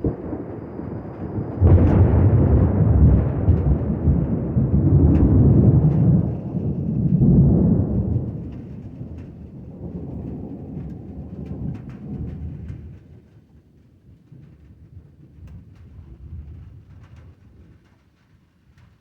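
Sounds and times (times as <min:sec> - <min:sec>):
deep rolling thunder: 0:00.0 - 0:13.5, 0:14.3 - 0:17.9
light rain: 0:00.0 - 0:19.0.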